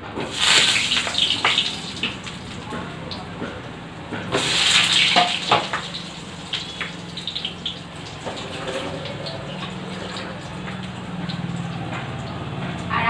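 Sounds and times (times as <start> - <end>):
running water rush: 0.0 - 12.8.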